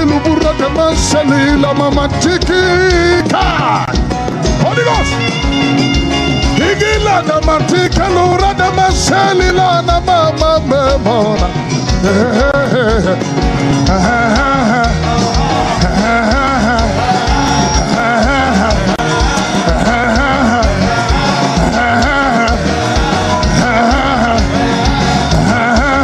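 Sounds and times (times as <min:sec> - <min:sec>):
live band playing worship music: 0:00.0 - 0:26.0.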